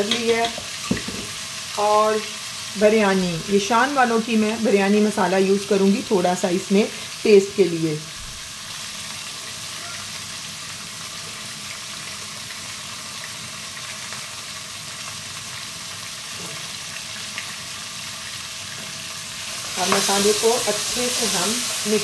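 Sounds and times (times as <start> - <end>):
food frying in oil: 0.0 - 22.0.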